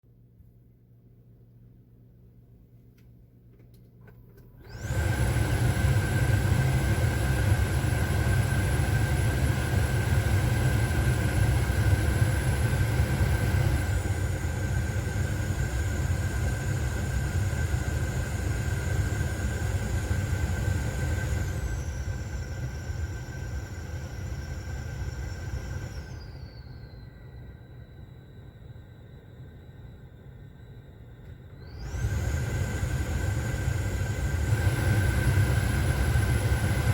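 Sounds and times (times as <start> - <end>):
blower fan whistling: 4.5 - 36.9.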